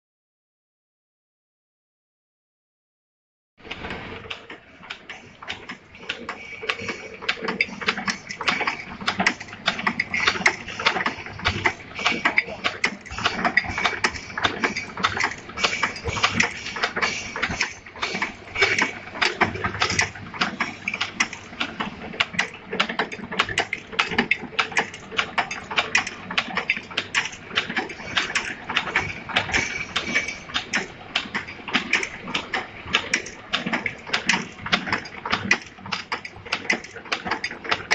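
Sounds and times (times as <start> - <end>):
machine clattering clicks and snips: 3.6 - 37.9.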